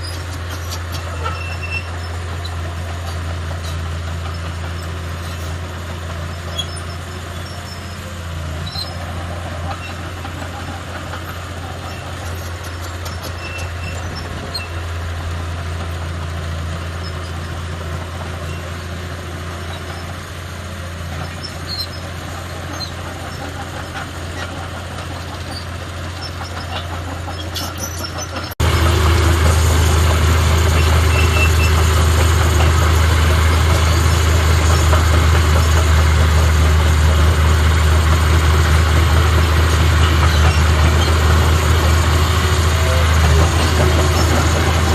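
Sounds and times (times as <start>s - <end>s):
close loud engine: 0.0s - 44.9s
heavy diesel machinery running: 0.0s - 44.9s.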